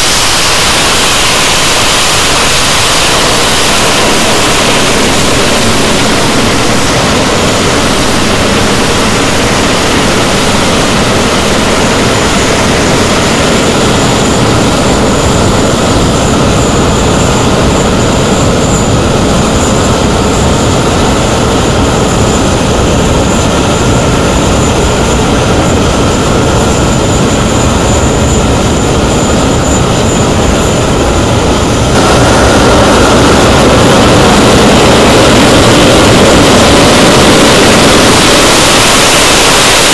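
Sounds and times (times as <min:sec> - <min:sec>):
high steady whine: 0:00.0 - 0:39.9
jet engines roaring: 0:00.0 - 0:39.9.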